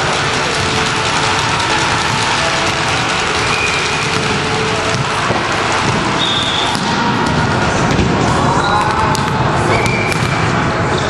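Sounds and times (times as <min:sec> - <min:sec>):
volleyballs smacking and bouncing: 0:00.0 - 0:10.6.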